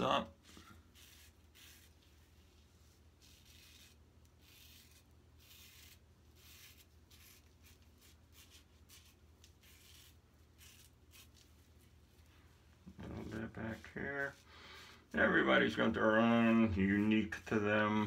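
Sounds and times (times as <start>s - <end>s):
razor scraping stubble: 0.4s - 2.3s, 3.1s - 12.0s, 12.9s - 14.5s, 15.1s - 18.0s.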